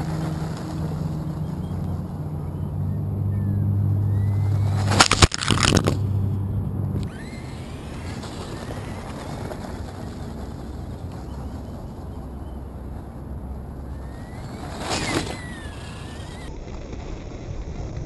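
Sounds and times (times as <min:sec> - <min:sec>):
electric motor whining: 0:00.0 - 0:16.8
low rumble: 0:00.0 - 0:18.0.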